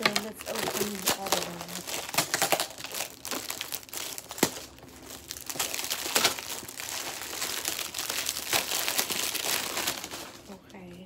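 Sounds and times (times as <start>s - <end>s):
sharp paper crackles: 0.0s - 10.8s
paper packaging crinkling: 0.0s - 11.0s.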